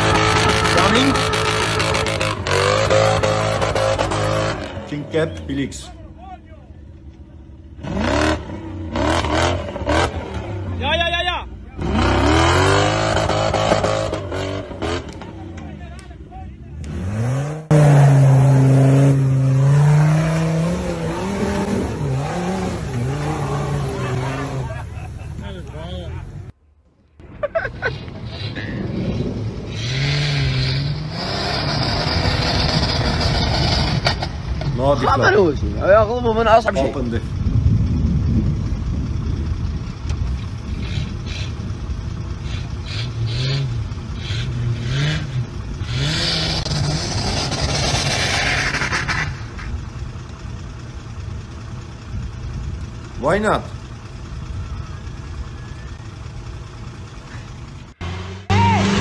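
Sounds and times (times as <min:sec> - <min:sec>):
off-road vehicle engine revving: 0:00.0 - 0:05.9, 0:07.2 - 0:26.5, 0:27.5 - 0:59.0.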